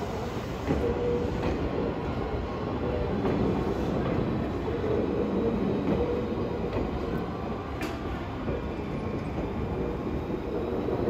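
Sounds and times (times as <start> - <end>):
electric train rolling slowly: 0.0 - 11.0.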